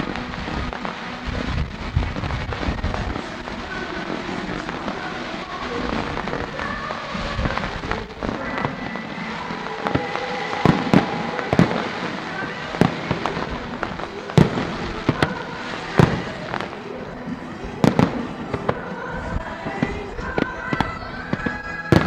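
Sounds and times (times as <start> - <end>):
fireworks crackles and bangs: 0.0 - 22.0.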